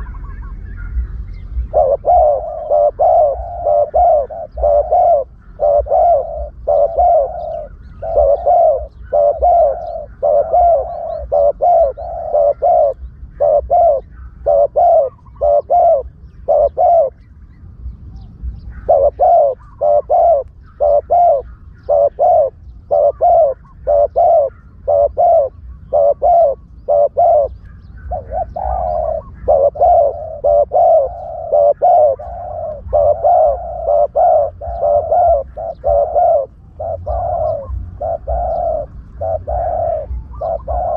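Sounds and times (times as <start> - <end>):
dove cooing: 0.0 - 17.3, 18.2 - 40.9.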